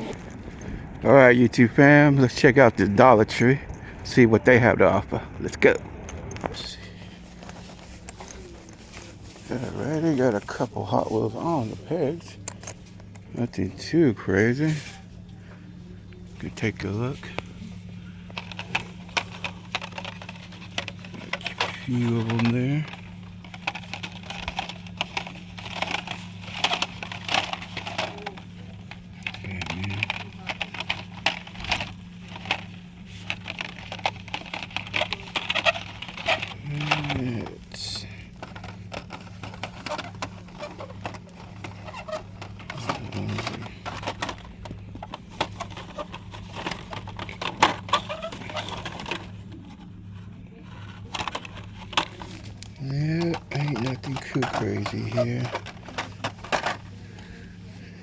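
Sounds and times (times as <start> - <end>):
steady low hum: 0.0 - 58.0
plastic blister packs crinkling: 6.4 - 58.0.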